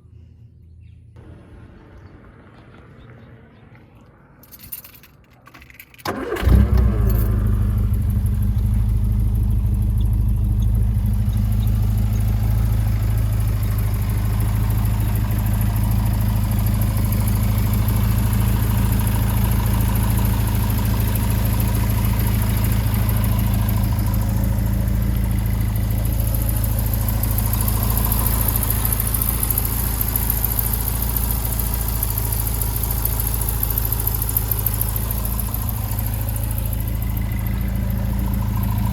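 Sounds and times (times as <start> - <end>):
car engine starting and idling: 1.2 - 38.9.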